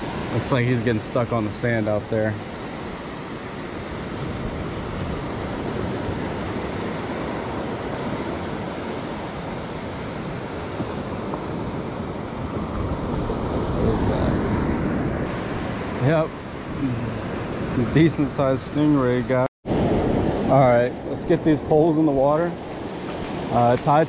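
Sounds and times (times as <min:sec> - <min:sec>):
wind on microphone: 0:00.0 - 0:18.4, 0:19.7 - 0:23.8
surf washing onto beach: 0:00.0 - 0:24.0.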